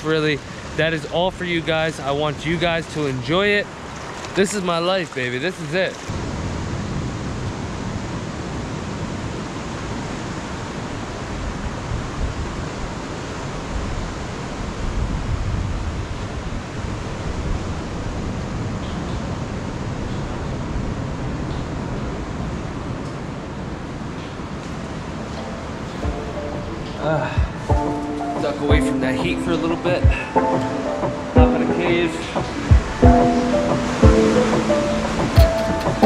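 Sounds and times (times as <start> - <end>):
ocean surf on a beach: 0.0 - 36.0.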